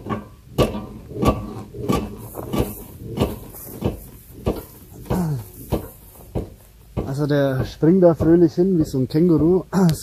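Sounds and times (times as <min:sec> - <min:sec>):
vehicle suspension clunking: 0:00.0 - 0:10.0.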